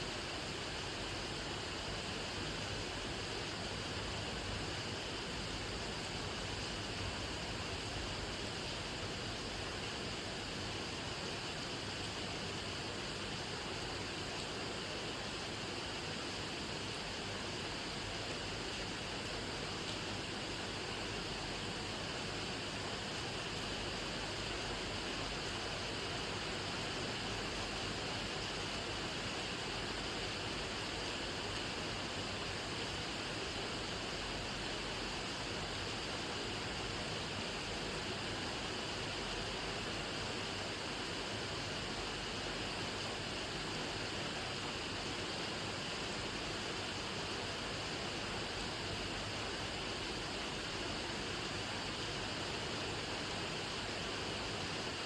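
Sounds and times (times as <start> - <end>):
steady rain falling: 0.1 - 55.0.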